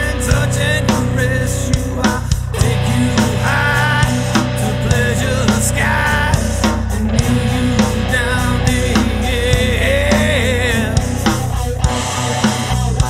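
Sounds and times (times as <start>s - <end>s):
person singing: 0.0s - 13.0s
rock music backing track: 0.0s - 13.0s
steady drum beat: 0.0s - 13.0s.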